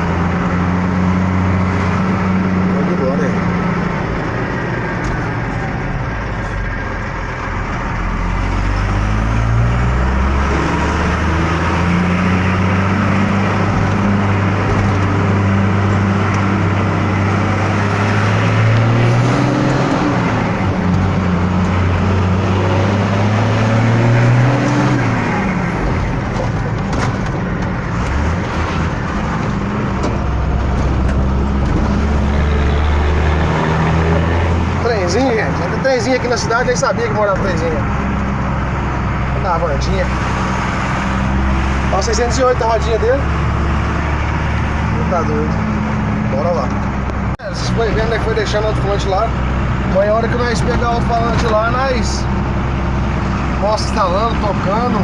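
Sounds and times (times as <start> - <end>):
diesel engine accelerating: 0.0 - 55.0.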